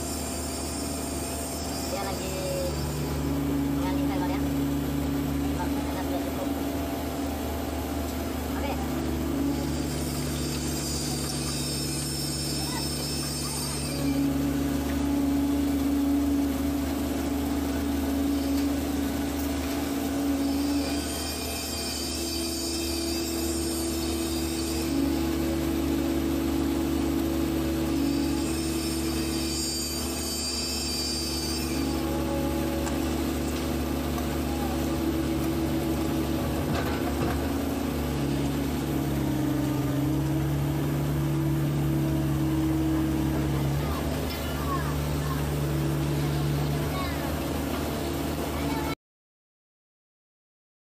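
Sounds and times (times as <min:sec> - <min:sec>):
excavator diesel engine: 0:00.0 - 0:49.0
hydraulic whine: 0:00.0 - 0:49.0.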